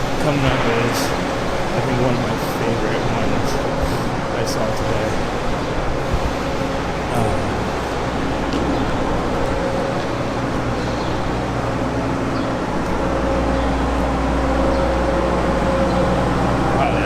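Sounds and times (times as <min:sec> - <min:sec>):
city street noise: 0:00.0 - 0:17.0
vehicle engine rumble: 0:00.0 - 0:17.0.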